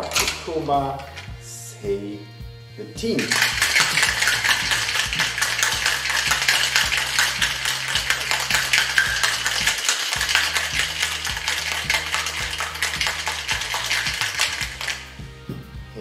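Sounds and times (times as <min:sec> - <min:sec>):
ice rattling in cocktail shaker: 0:00.0 - 0:01.3, 0:03.2 - 0:15.2
quiet background music: 0:00.0 - 0:16.0.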